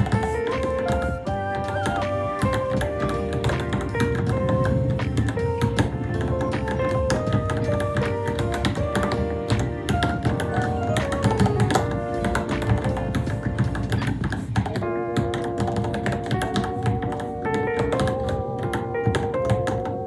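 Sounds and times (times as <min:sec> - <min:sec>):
background music with melody: 0:00.0 - 0:20.0
mechanical keyboard typing: 0:00.0 - 0:20.0.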